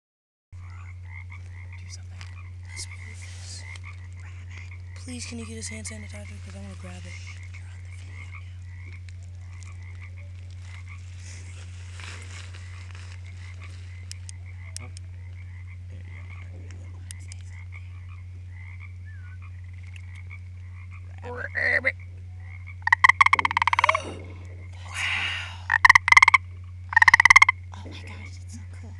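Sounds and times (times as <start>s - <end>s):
frog croaking: 0.6s - 28.4s
steady low hum: 0.6s - 28.9s.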